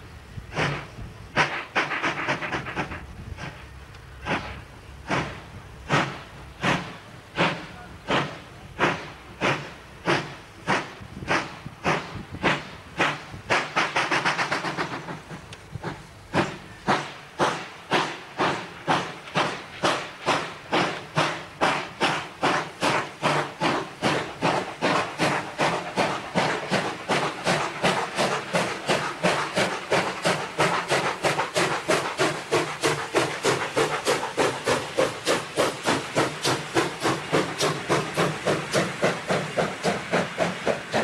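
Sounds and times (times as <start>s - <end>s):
steam locomotive exhaust beats: 0.0s - 41.0s.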